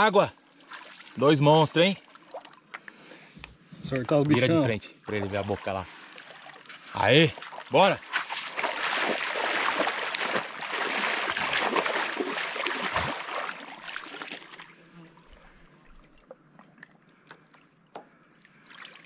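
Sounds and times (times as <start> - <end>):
water splashing and sloshing: 0.4 - 19.0
small water drips: 0.5 - 1.2, 2.0 - 4.2, 5.1 - 14.7, 15.3 - 19.0.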